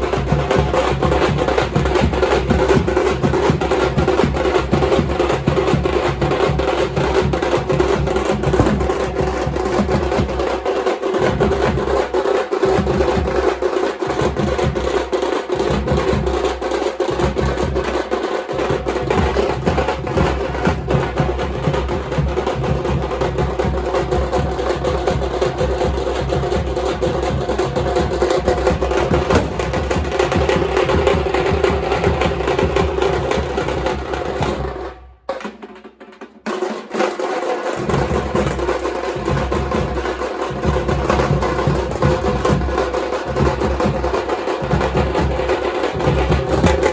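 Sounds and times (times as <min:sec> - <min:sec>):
drums beaten in fast rhythm: 0:00.0 - 0:46.9.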